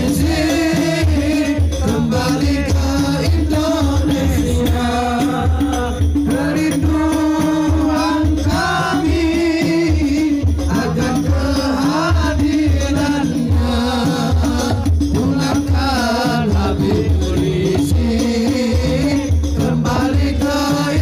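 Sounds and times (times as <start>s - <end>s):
low drum beats: 0.0s - 21.0s
man singing through loudspeakers: 0.0s - 21.0s.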